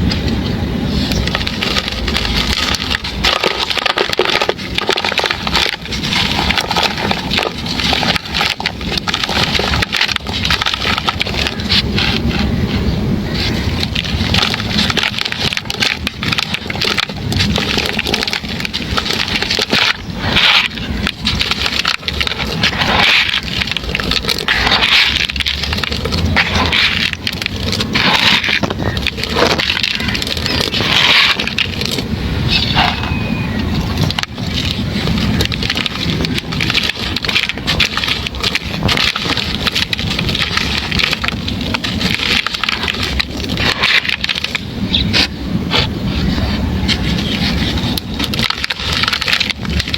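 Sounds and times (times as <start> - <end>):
stony chunks crunching by hand: 0.0 - 49.9.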